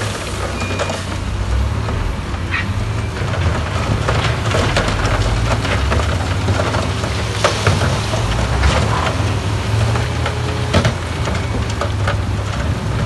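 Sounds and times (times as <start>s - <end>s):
diesel engine humming: 0.0s - 13.0s
rocks cracking and clattering: 0.0s - 13.0s.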